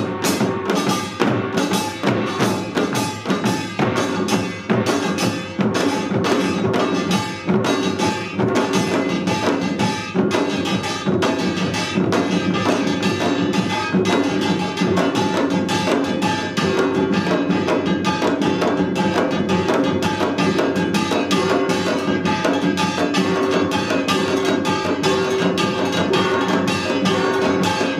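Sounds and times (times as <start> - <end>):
fast dense drumbeat: 0.0 - 27.9.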